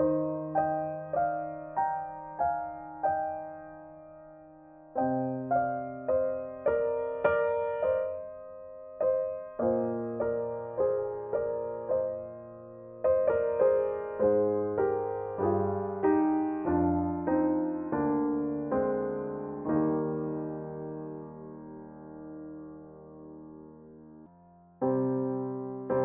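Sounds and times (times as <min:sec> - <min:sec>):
slow solo piano melody: 0:00.0 - 0:26.0.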